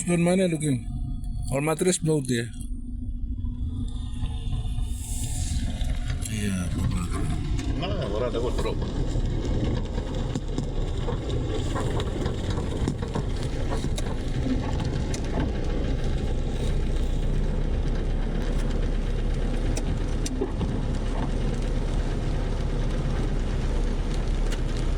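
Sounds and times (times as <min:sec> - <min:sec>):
rainstorm: 0:00.0 - 0:24.9
rain drops striking: 0:03.9 - 0:24.9.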